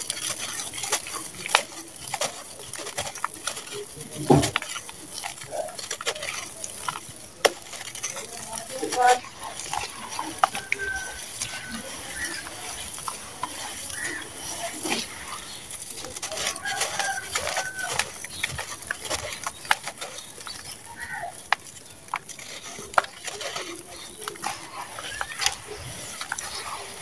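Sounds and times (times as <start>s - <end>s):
cement pieces cracking: 0.0s - 27.0s
crumbs falling into water: 0.0s - 27.0s
hands crunching dry cement lumps: 0.0s - 27.0s.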